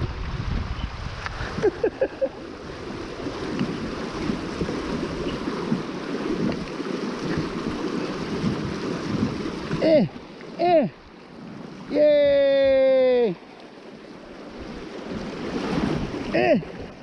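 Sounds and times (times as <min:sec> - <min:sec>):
wind buffeting microphone: 0:00.0 - 0:10.4, 0:11.3 - 0:13.4, 0:14.3 - 0:17.0
river water splashing: 0:00.0 - 0:17.0.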